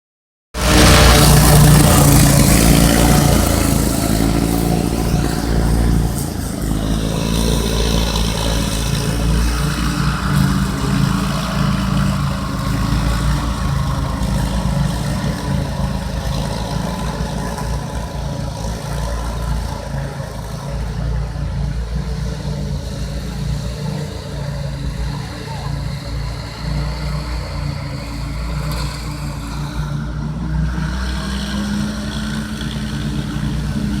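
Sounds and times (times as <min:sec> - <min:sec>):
buggy engine drone: 0:00.6 - 0:34.0.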